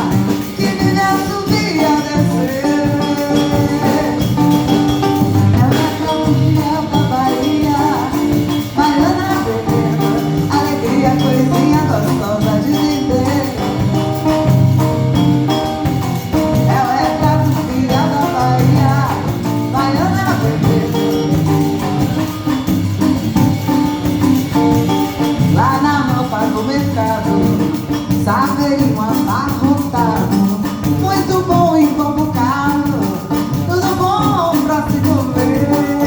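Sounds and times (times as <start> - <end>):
samba band playing: 0.0 - 36.0.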